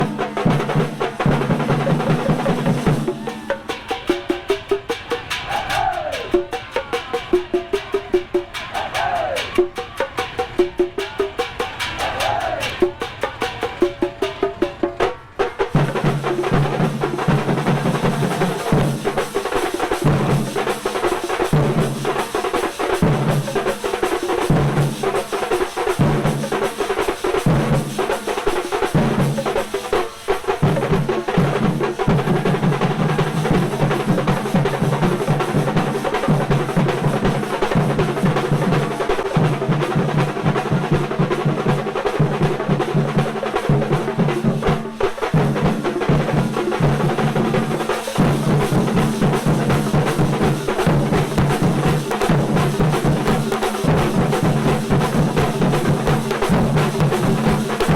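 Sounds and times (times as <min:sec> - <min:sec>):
fast drumming rolls: 0:00.0 - 0:57.9.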